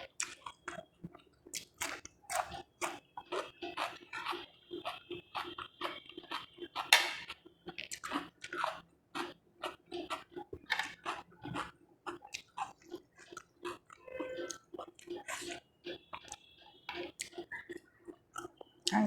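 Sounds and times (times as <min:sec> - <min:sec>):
person chewing crunchy food: 0:00.0 - 0:18.9.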